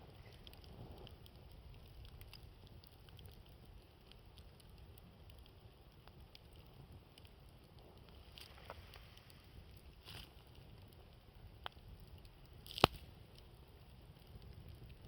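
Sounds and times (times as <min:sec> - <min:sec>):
campfire crackling and popping: 0:00.0 - 0:15.0
wind rumble on microphone: 0:00.0 - 0:15.0.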